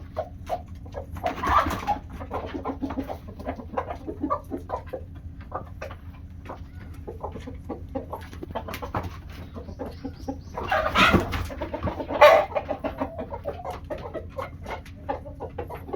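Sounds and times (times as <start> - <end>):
chickens clucking: 0.0 - 15.9.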